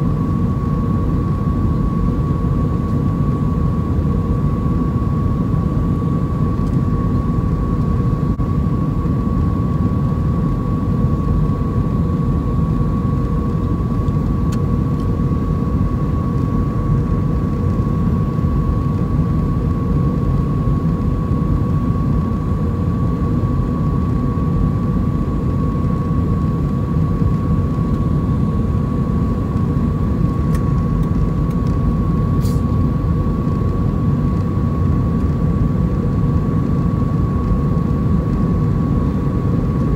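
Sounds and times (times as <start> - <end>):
airflow rushing in aircraft cabin: 0.0 - 39.9
jet engines: 0.0 - 39.9
steady high whine: 0.0 - 39.9.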